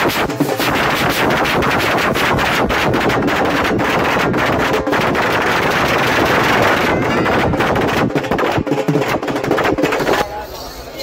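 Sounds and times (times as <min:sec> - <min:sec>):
loud bangs and pops: 0:00.0 - 0:10.2
dense noisy din: 0:00.0 - 0:11.0.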